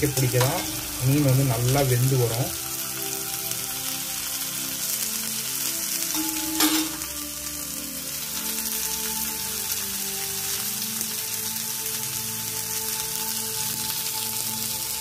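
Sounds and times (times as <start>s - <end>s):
fish sizzling in oil: 0.0s - 15.0s.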